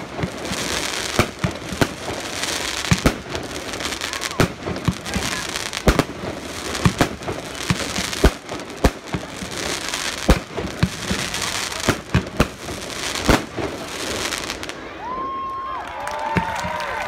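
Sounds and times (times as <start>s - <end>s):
fireworks hiss: 0.0s - 14.8s
fireworks bangs: 0.0s - 15.5s, 16.1s - 17.0s.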